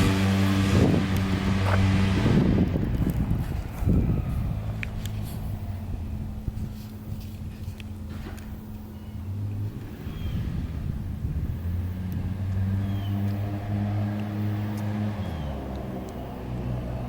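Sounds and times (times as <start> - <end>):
engine running under way: 0.0 - 6.7, 8.0 - 17.0.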